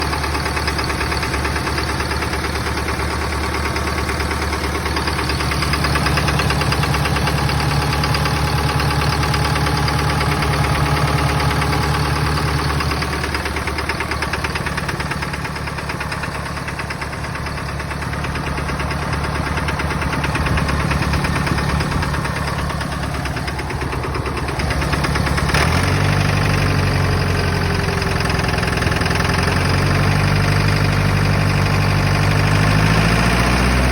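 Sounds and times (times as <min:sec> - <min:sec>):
engine idling with knock: 0:00.0 - 0:33.9.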